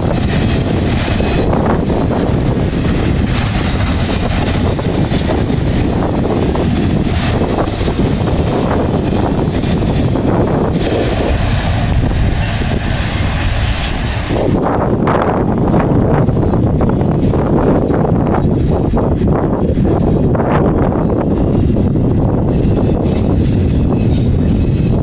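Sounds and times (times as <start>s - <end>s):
freight train wheels rumbling on rail: 0.0s - 25.0s
wind buffeting microphone: 0.0s - 25.0s.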